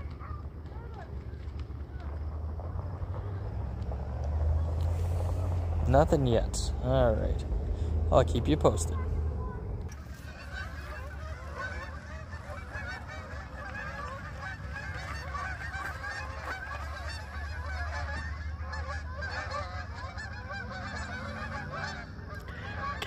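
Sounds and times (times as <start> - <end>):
geese honking in flight: 0.0 - 23.0.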